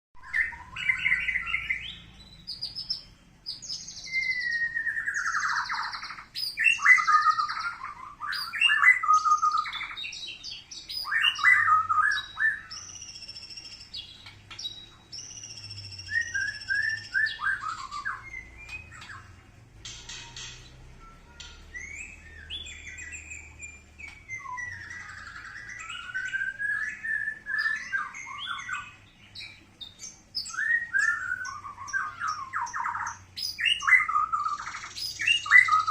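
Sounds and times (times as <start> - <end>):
bird singing varied song: 0.2 - 35.9.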